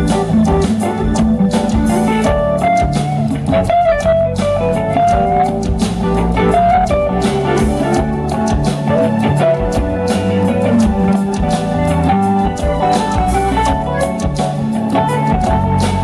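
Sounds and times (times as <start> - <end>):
bass: 0.0 - 16.0
drum kit: 0.0 - 16.0
electric guitar lead line: 0.0 - 16.0.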